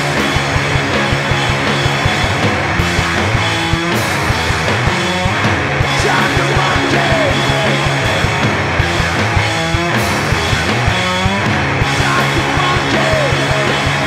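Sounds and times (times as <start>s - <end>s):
distorted electric guitar: 0.0s - 14.0s
drum kit beat: 0.0s - 14.0s.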